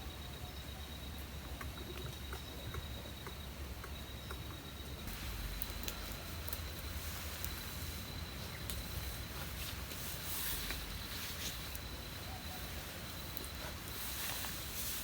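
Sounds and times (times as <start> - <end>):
thin steady high tone: 0.0 - 15.0.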